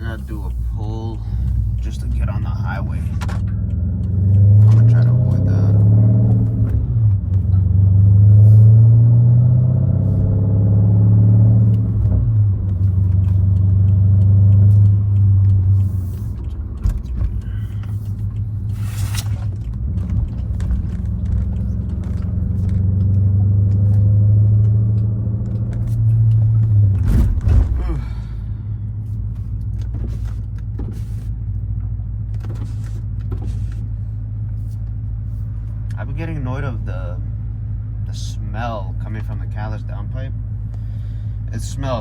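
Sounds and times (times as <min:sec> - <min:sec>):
car engine droning while driving: 0:00.0 - 0:42.0.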